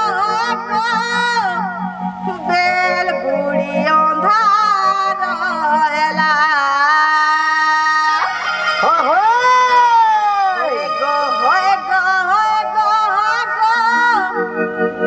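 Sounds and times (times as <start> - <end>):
woman singing folk song: 0.0 - 14.4.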